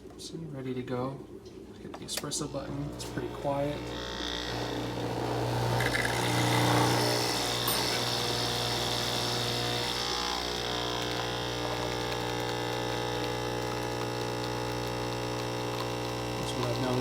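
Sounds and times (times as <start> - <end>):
coffee machine pump humming: 1.8 - 17.0.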